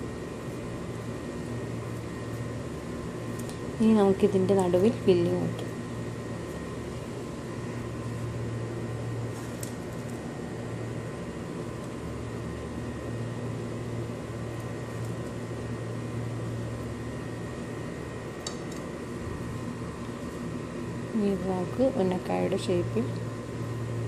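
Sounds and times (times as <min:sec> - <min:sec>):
appliance hum with hiss: 0:00.0 - 0:24.0.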